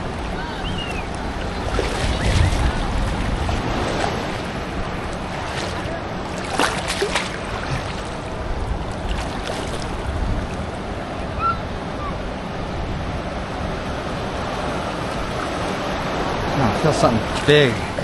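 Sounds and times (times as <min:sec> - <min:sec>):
ocean surf washing: 0:00.0 - 0:18.0
wind on microphone: 0:00.0 - 0:18.0.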